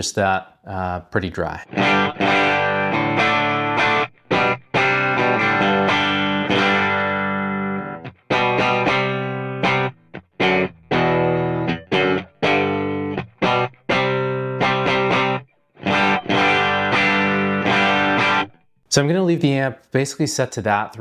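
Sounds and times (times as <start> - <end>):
electric guitar chords strummed: 1.6 - 18.6.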